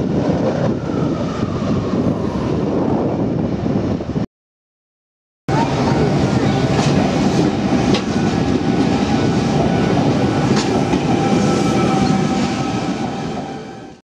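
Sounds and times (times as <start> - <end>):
electric train rumbling on track: 0.0 - 4.2, 5.5 - 14.0.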